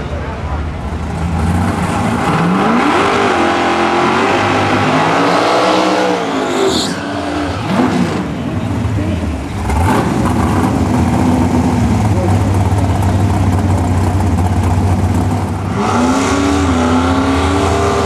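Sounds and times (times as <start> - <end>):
car engine revving: 0.8 - 18.0.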